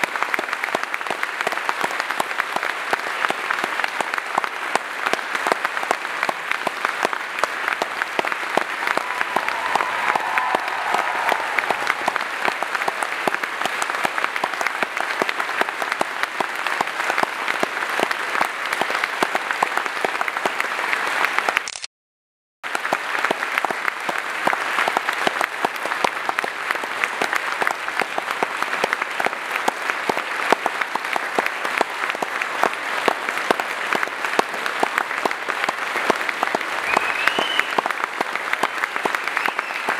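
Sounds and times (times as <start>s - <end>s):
audience applauding: 0.0s - 21.7s, 22.7s - 39.9s.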